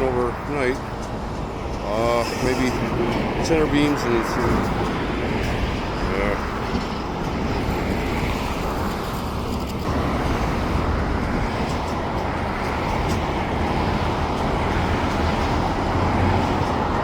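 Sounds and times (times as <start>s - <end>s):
low engine rumble: 0.0s - 17.0s
road traffic noise: 0.0s - 17.0s.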